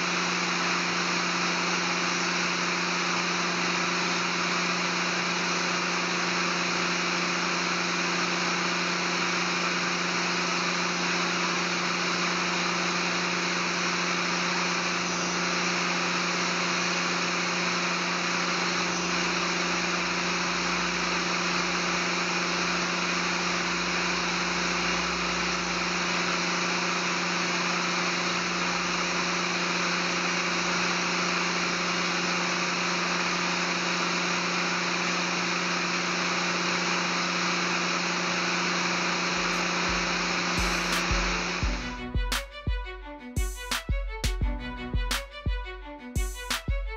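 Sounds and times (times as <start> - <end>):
workshop machinery humming: 0.0 - 46.9.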